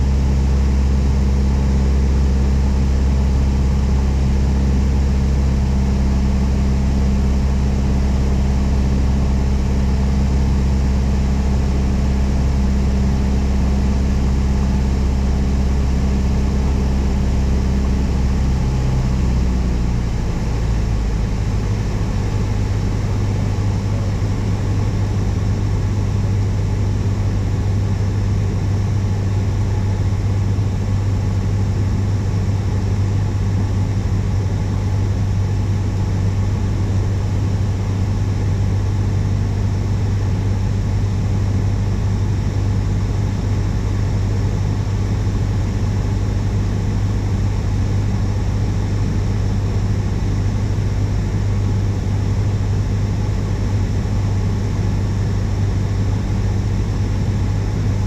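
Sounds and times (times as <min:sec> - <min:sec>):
light aircraft engine drone: 0:00.0 - 0:58.0.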